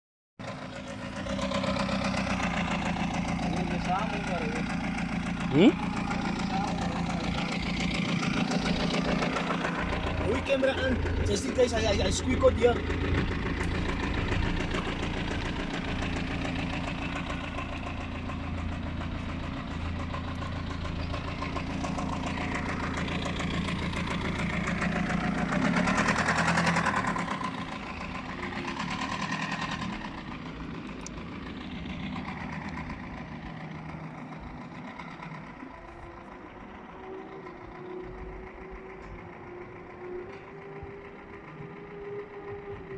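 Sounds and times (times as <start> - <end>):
diesel engine running: 0.4 - 42.9.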